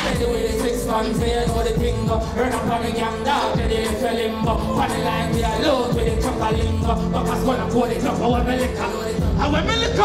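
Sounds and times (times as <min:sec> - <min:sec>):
dancehall music with steady beat: 0:00.0 - 0:10.0.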